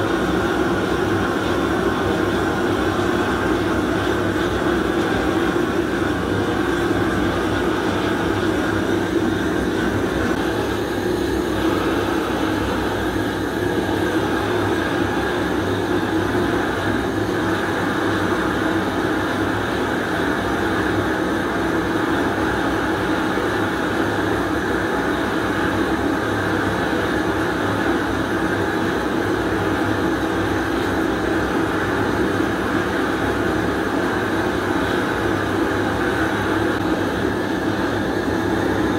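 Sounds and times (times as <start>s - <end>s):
propane torch flame rushing: 0.0s - 38.9s.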